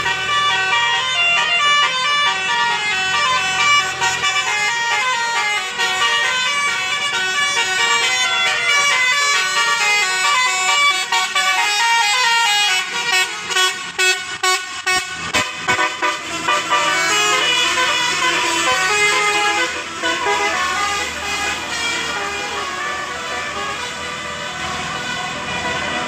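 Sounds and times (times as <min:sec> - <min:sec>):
bus air horn playing a melody: 0:00.0 - 0:26.0.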